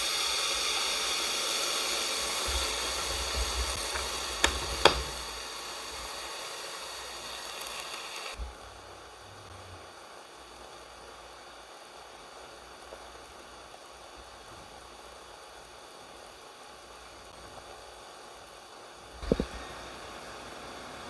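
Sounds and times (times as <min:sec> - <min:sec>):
meat sizzling in waffle maker: 0:00.0 - 0:21.0.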